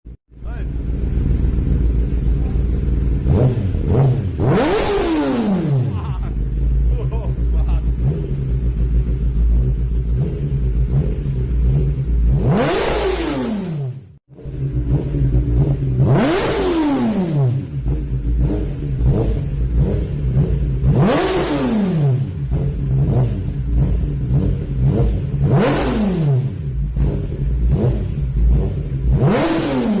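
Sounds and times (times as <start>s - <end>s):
motorcycle engine idling and revving: 0.3s - 30.0s.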